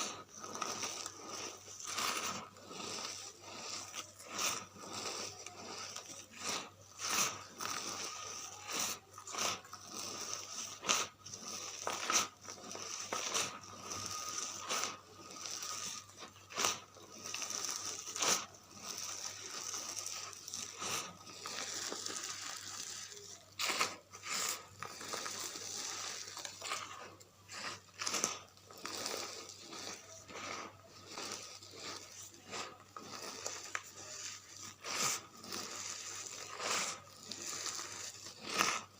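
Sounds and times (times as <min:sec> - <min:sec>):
charcoal crunching and crackling: 0:00.0 - 0:38.9.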